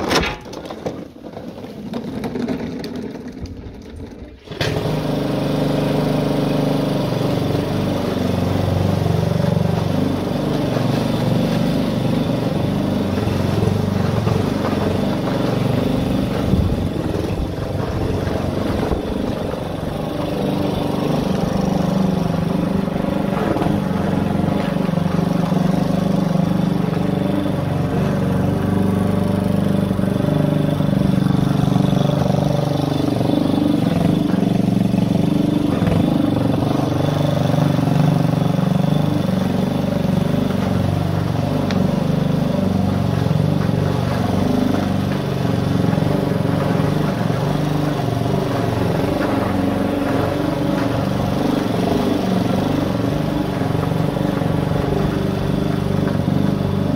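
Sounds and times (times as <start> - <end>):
lawn mower engine cutting grass: 0.0 - 56.9.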